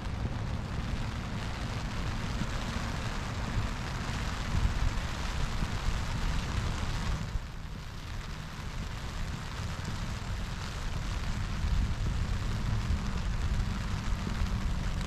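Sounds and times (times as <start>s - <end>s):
low rumble: 0.0s - 15.0s
steady rain falling: 0.0s - 15.0s.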